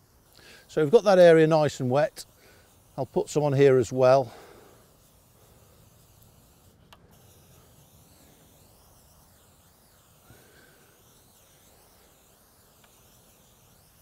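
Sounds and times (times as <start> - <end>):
pressure sprayer hissing: 0.0 - 14.0.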